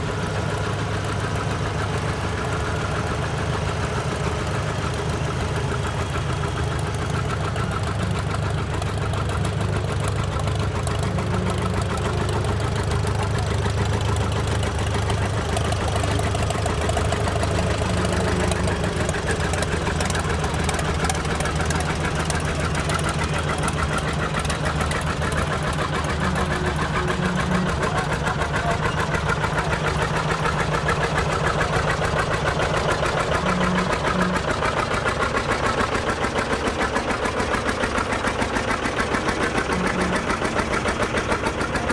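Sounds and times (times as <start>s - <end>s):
tractor engines running: 0.0s - 41.9s.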